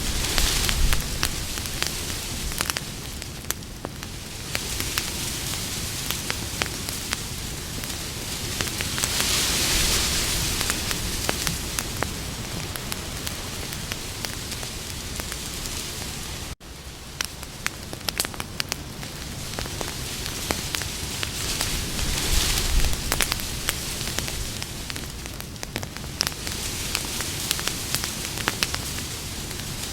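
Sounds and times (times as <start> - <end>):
campfire crackling and popping: 0.0 - 29.9
campfire hiss: 0.0 - 29.9.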